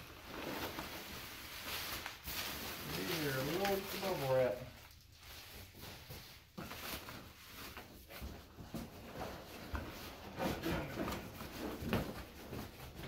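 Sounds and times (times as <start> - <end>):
bubble wrap and cardboard rustling: 0.0 - 13.0.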